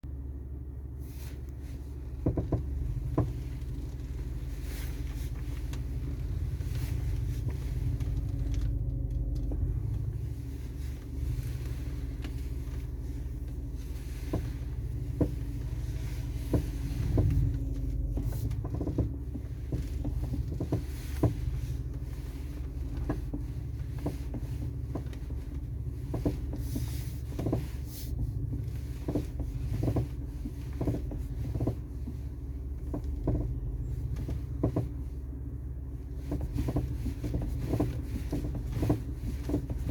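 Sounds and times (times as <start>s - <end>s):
steady low rumble: 0.0s - 39.9s
suspension popping and clunking: 0.2s - 39.9s.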